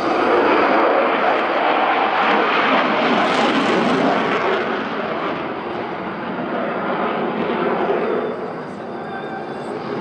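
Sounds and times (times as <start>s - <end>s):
fighter jet flying overhead: 0.0s - 10.0s.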